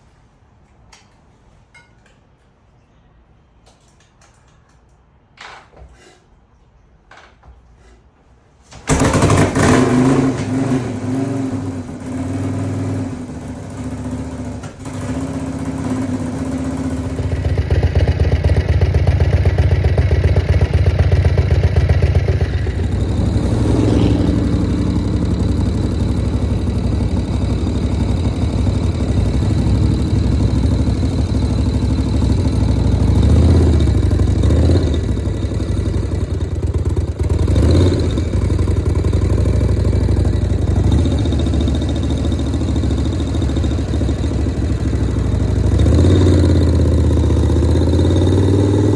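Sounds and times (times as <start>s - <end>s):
motorcycle engine starting and revving: 8.8s - 48.9s.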